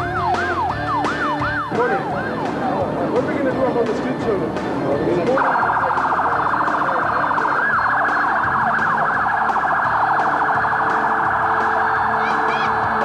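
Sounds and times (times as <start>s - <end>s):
police siren warbling: 0.0s - 2.9s, 5.4s - 13.0s.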